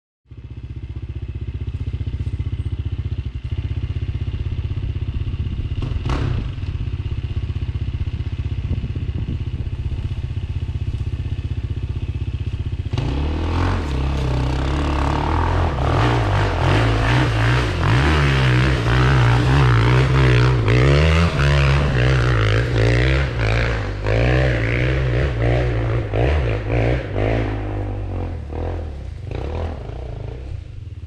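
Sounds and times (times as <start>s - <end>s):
dirt bike engine idling: 0.3s - 31.0s
dirt bike revving: 0.3s - 31.0s.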